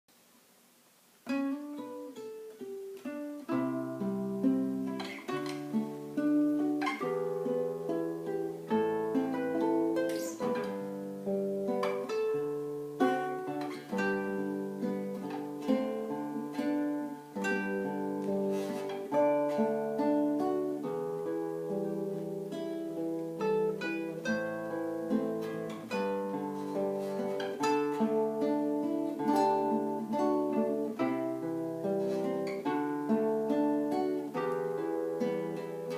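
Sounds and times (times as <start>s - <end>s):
fingerstyle acoustic guitar: 1.0s - 35.9s.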